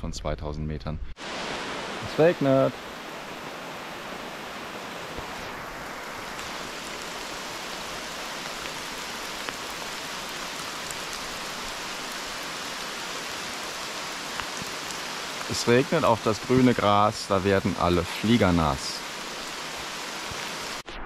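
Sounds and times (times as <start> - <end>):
steady rain falling: 1.2 - 20.8
sharp raindrop hits: 1.2 - 20.9.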